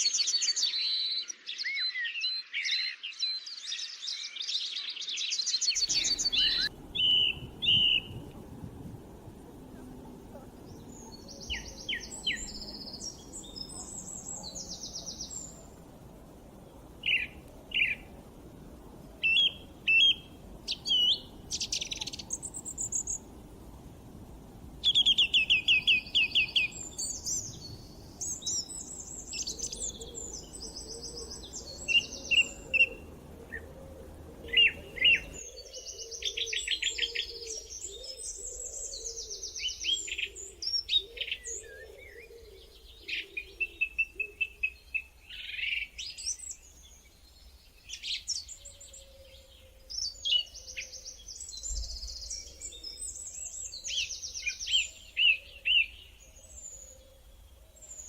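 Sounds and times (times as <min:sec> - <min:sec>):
birds singing and chirping: 0:00.0 - 0:58.0
faint low ambient background: 0:05.8 - 0:58.0.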